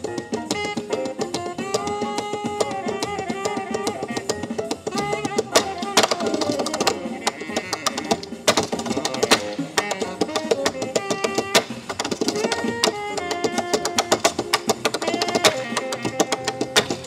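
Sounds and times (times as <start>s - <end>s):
melodic music: 0.0s - 17.0s
tap shoes on wooden board: 0.0s - 17.0s.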